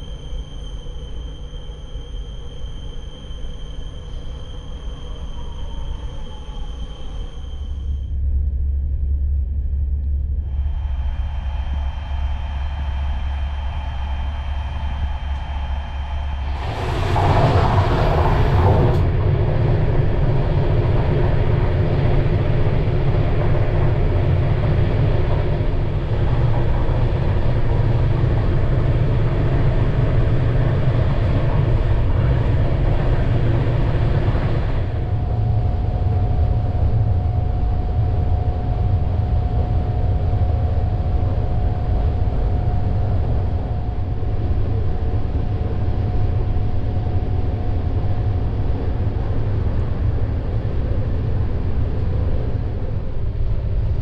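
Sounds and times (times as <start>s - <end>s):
steady hum: 0.0s - 54.0s
steady whine: 0.0s - 54.0s
train wheels rumbling on rails: 10.4s - 54.0s.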